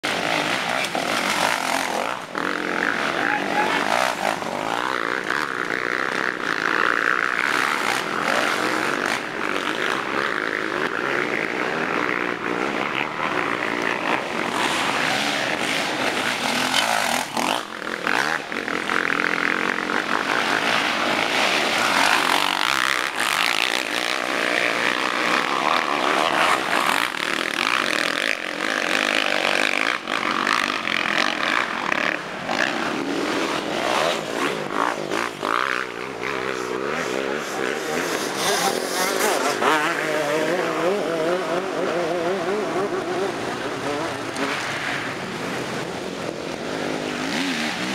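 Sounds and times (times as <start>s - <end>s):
motocross bike engines revving: 0.0s - 47.9s.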